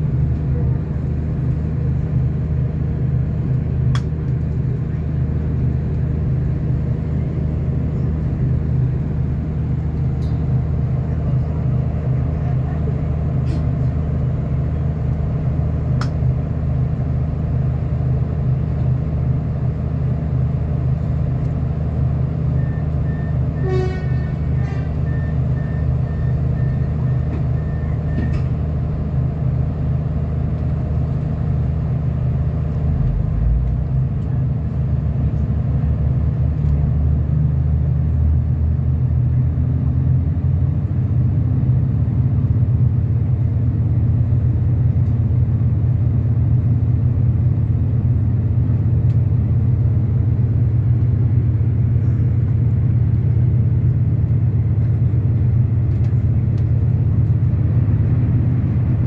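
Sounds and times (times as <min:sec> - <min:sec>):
train low hum: 0:00.0 - 0:59.0
train rumbling as it moves: 0:00.0 - 0:59.0.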